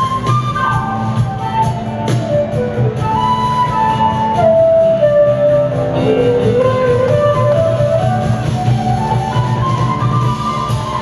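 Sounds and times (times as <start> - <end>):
flute melody: 0.0 - 11.0
rock band playing: 0.0 - 11.0.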